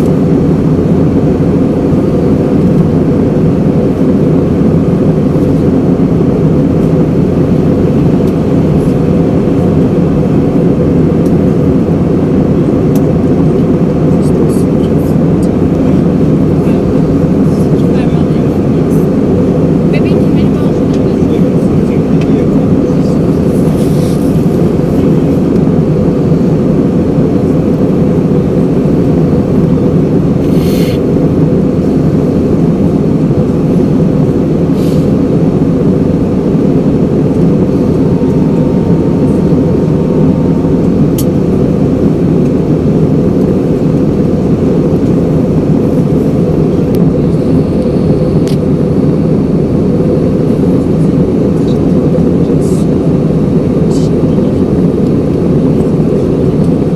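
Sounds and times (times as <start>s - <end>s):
airliner cabin engine rush: 0.0s - 56.9s.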